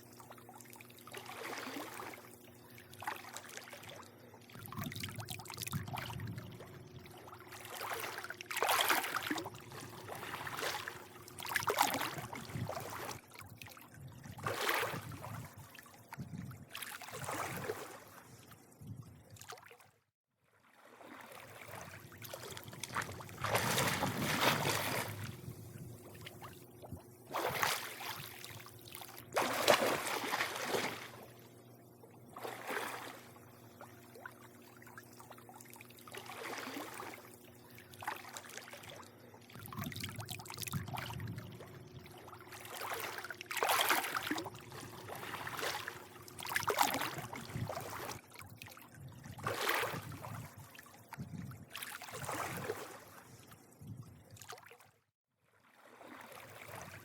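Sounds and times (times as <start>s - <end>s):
steady low hum: 0.0s - 19.4s, 21.5s - 51.7s
pool water lapping and sloshing: 0.0s - 57.0s.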